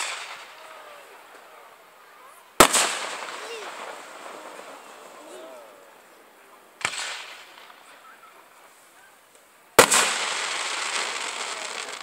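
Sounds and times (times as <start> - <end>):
fireworks bangs: 0.0 - 2.0, 2.6 - 8.9, 9.7 - 12.0
fireworks crackling hiss: 0.0 - 12.0.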